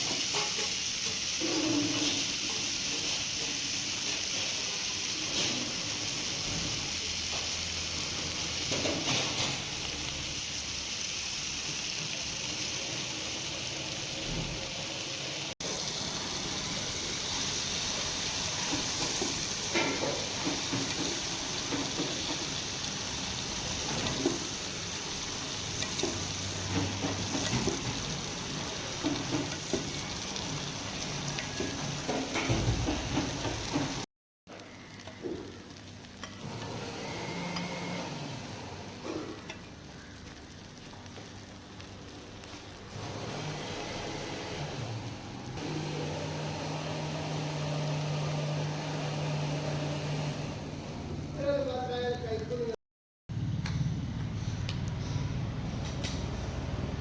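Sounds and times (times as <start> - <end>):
fish sizzling in oil: 0.0 - 38.0, 39.0 - 49.9.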